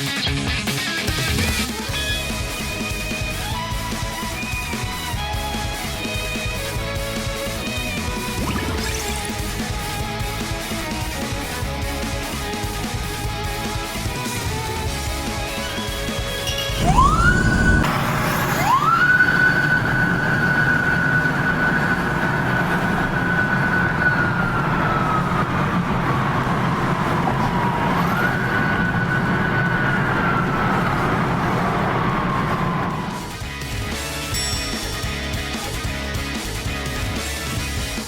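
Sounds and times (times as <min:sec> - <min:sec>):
road traffic rumble: 0:01.2 - 0:38.0
police siren: 0:02.2 - 0:33.5.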